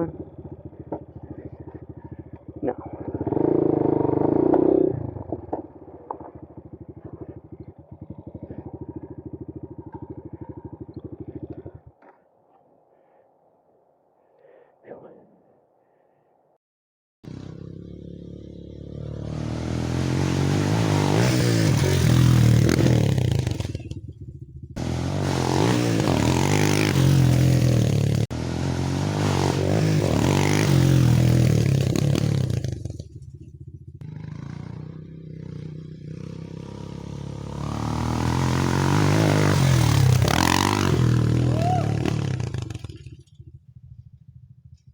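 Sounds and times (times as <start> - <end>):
motorcycle rattling: 0.0 - 12.0, 17.3 - 44.9
motorcycle engine revving: 0.0 - 12.3, 17.2 - 44.9.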